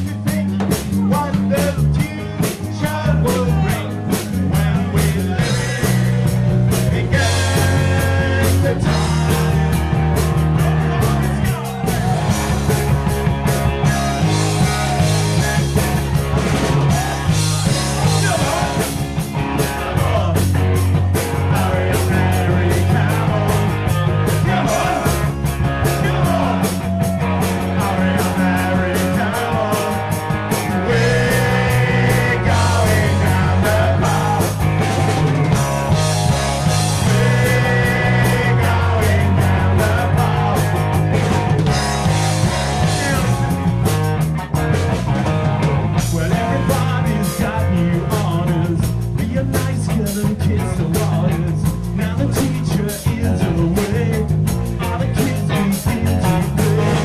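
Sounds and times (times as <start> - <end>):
person singing: 0.0 - 12.6, 13.8 - 35.4, 36.7 - 40.8, 46.0 - 57.0
live rock band playing: 0.0 - 57.0.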